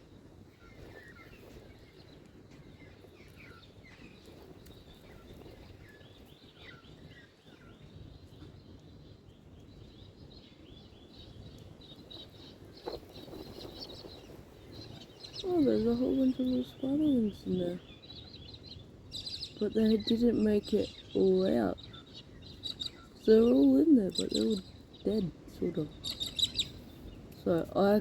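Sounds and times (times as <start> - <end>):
birds chirping: 0.0 - 28.0
low outdoor rumble: 0.0 - 28.0.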